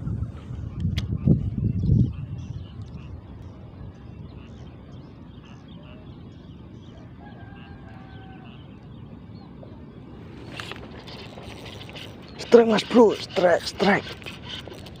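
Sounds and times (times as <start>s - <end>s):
low wind rumble on microphone: 0.0s - 12.9s.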